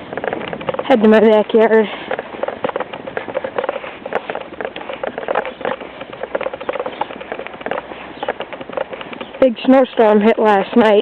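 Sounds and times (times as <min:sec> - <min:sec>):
footsteps crunching through snow: 0:00.0 - 0:11.0.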